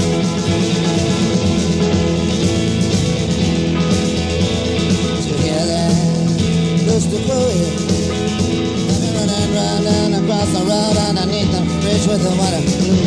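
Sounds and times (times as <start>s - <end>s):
lead guitar line bending in pitch: 0.0s - 13.0s
live rock band playing: 0.0s - 13.0s.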